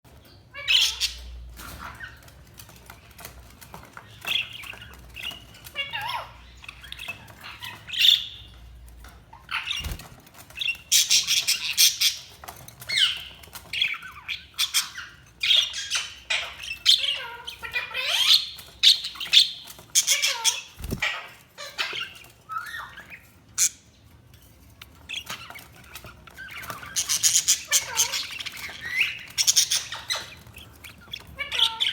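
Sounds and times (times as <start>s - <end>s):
budgerigars chirping: 0.6s - 24.0s, 24.8s - 31.9s.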